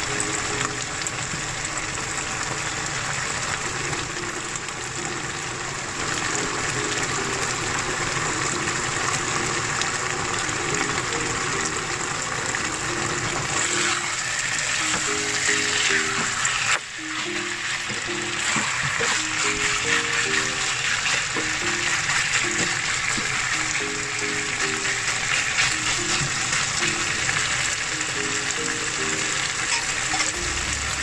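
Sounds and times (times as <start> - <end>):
meat sizzling in a wok: 0.0 - 31.0.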